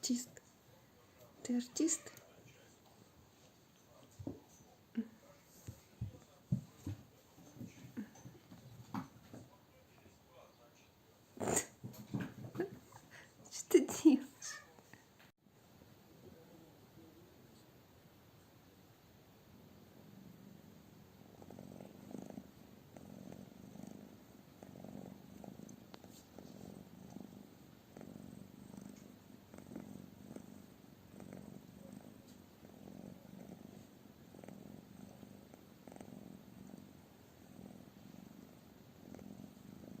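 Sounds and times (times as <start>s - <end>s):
cat purring: 0.0s - 13.4s, 19.4s - 40.0s.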